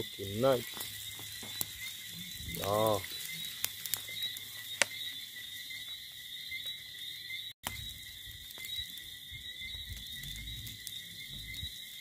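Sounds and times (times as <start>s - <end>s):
chorus of frogs or insects: 0.0s - 12.0s
wood fire cracking: 0.0s - 12.0s.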